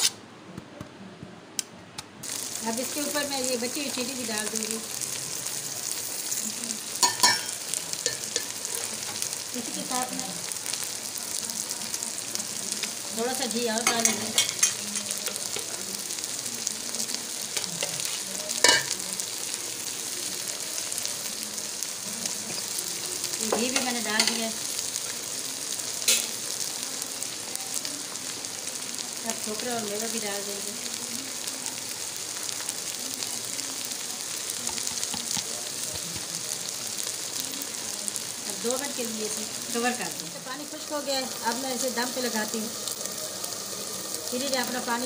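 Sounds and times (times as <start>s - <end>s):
pot sizzling with crackles: 0.0s - 0.2s, 2.2s - 45.0s.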